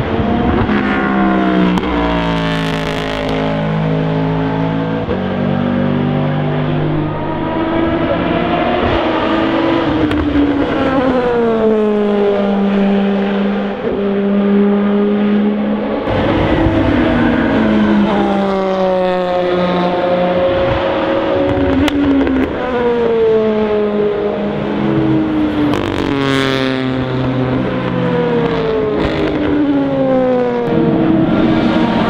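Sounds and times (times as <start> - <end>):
racing cars passing: 0.0 - 32.0.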